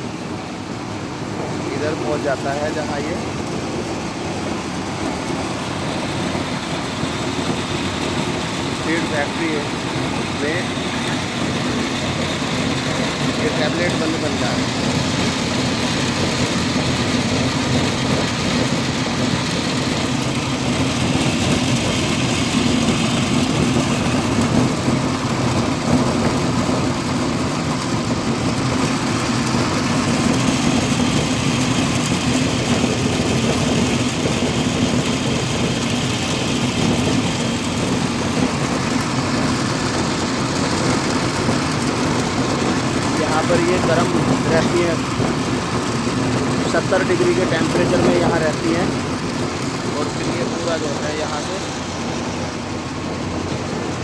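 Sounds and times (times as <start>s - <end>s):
constant machine hiss: 0.0s - 54.0s
feed mill machinery humming: 0.0s - 54.0s.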